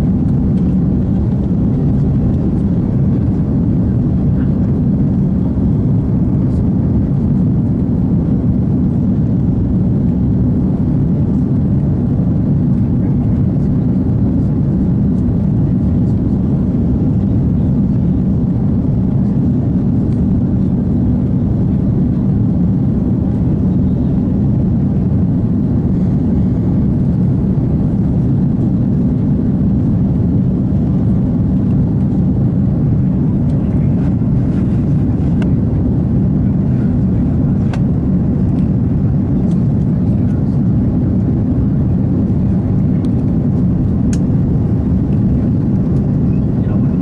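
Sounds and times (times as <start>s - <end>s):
jet engine drone in cabin: 0.0s - 47.0s.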